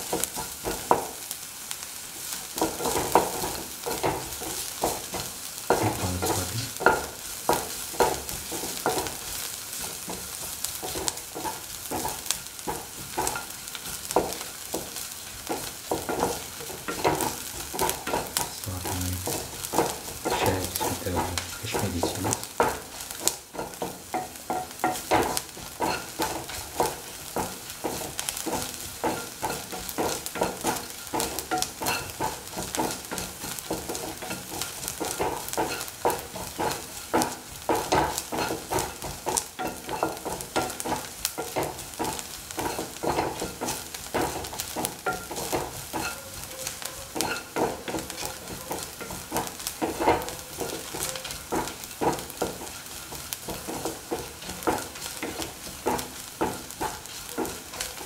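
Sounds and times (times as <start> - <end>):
shallots sizzling in hot oil: 0.0 - 58.0
utensil stirring and scraping pan: 0.0 - 58.0.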